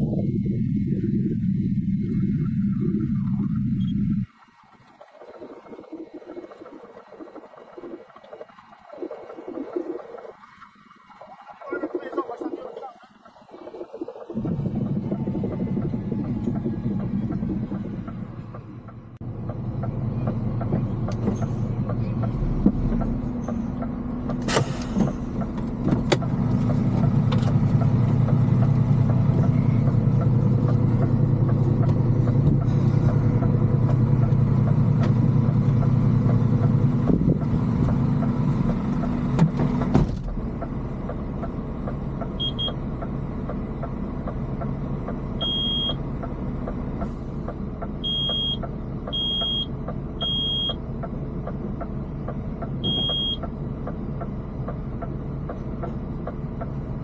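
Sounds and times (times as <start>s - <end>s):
heavy diesel engine: 0.0s - 57.0s.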